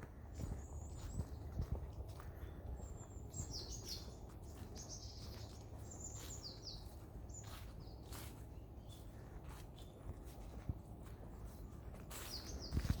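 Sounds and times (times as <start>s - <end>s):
small forest birds calling: 0.0s - 13.0s.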